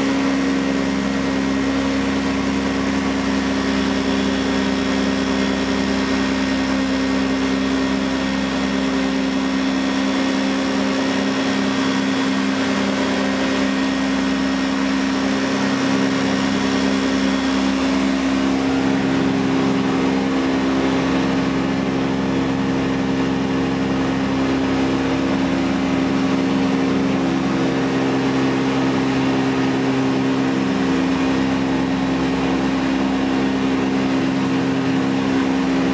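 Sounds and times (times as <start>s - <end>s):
piston engines droning: 0.0s - 35.9s.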